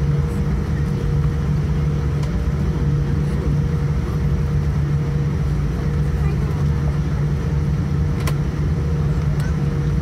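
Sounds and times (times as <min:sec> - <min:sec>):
aircraft cabin engine hum: 0:00.0 - 0:10.0.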